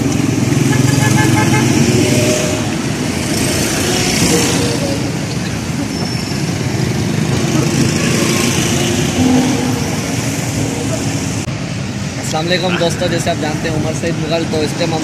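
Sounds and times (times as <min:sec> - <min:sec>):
passing vehicles: 0:00.0 - 0:15.0.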